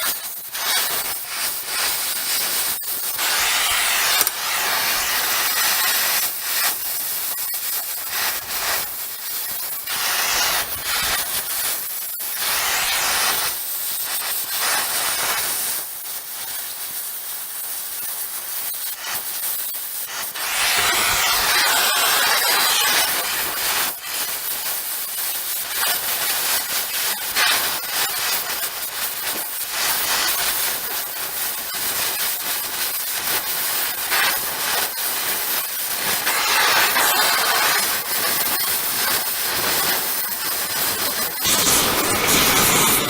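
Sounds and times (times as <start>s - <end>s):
cutting torch hissing: 0.0s - 15.7s, 18.1s - 43.0s.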